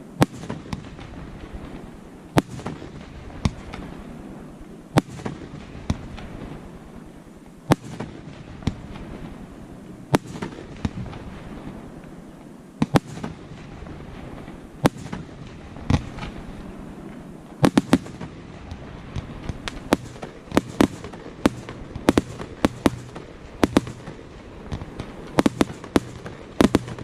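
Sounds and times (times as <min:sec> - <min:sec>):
continuous low background noise: 0:00.0 - 0:27.0
fireworks bangs: 0:00.0 - 0:27.0.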